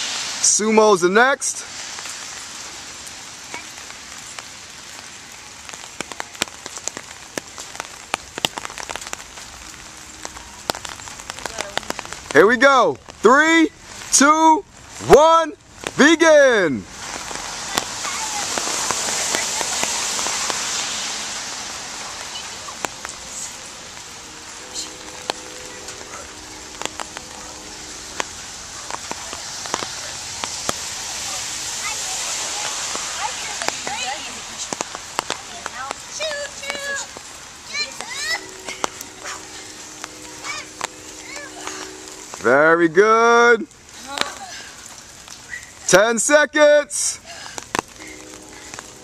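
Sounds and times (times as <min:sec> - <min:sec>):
rain hiss: 0:00.0 - 0:49.0
raindrops ticking close by: 0:00.0 - 0:49.0.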